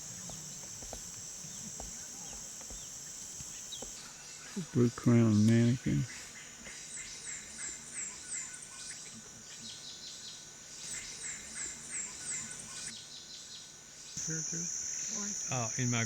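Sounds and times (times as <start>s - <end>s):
soft bird chirps: 0.0s - 13.3s
bird song with high slurred notes: 0.0s - 16.0s
insect buzzing: 0.0s - 16.0s.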